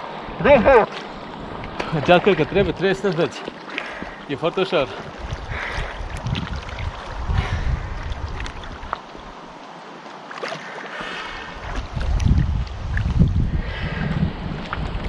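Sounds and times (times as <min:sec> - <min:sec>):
water sloshing and splashing: 0:00.0 - 0:15.0
wind buffeting microphone: 0:00.3 - 0:03.2, 0:03.9 - 0:09.4, 0:11.4 - 0:15.0.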